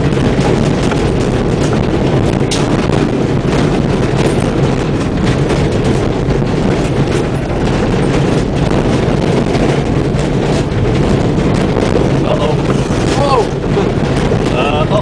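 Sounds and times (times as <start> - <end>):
body and suspension rattling: 0.0 - 15.0
tyres on rough track: 0.0 - 15.0
van engine under load: 0.0 - 15.0.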